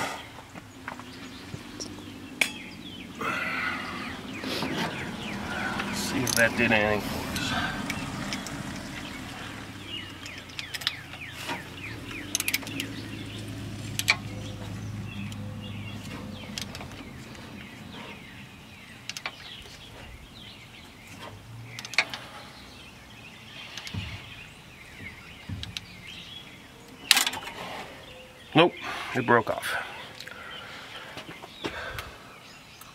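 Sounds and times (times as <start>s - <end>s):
birds chirping: 0.0s - 32.9s.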